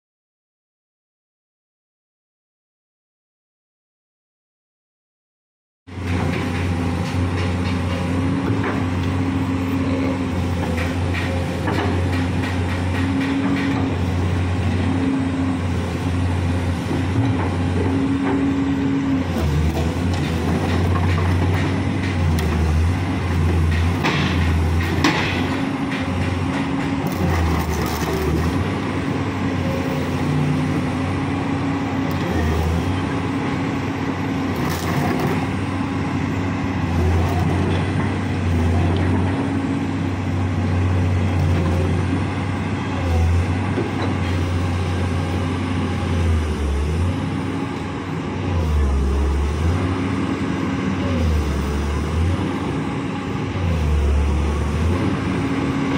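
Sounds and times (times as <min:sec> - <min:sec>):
excavator diesel engine running: 0:05.9 - 0:55.9.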